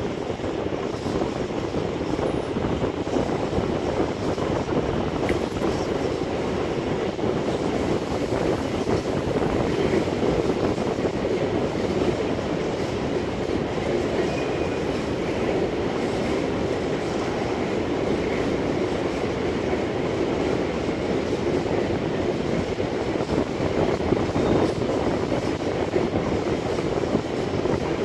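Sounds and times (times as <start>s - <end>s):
freight train wheels on rails: 0.0s - 28.0s.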